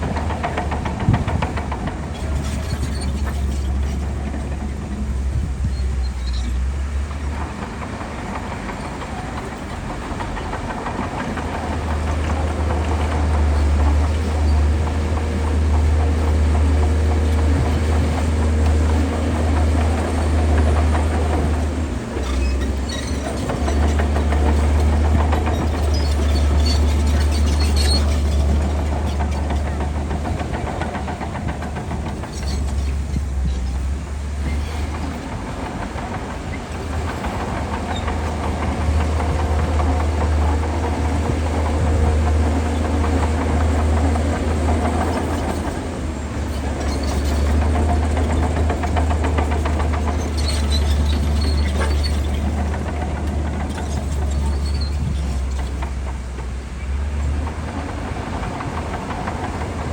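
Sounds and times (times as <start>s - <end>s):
bulldozer engine rumbling: 0.0s - 59.9s.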